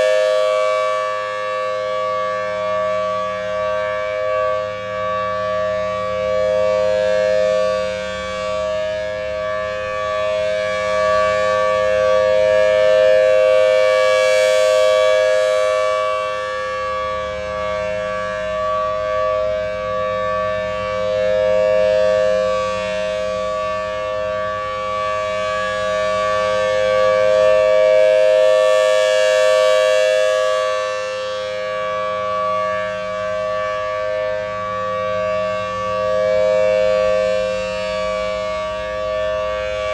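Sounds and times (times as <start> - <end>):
two-tone warning siren wail: 0.0 - 39.9.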